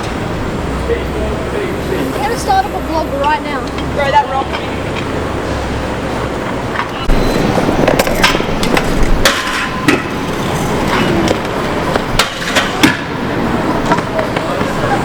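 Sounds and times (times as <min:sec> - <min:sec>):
skateboard wheels rolling on pavement: 0:00.0 - 0:15.0.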